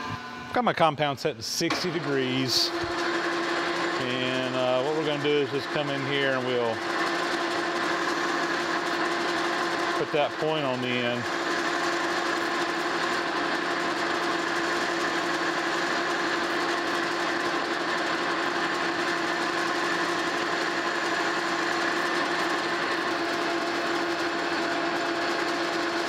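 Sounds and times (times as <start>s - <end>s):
metal lathe running: 1.6s - 26.0s.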